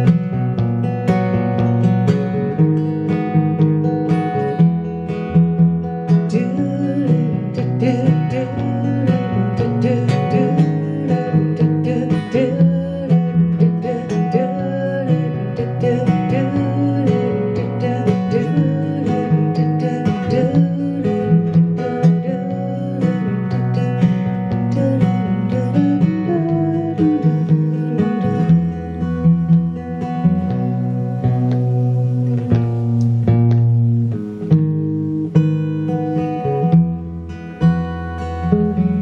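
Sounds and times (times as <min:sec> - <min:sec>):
acoustic guitar strummed: 0:00.0 - 0:39.0
electric bass guitar: 0:00.0 - 0:39.0.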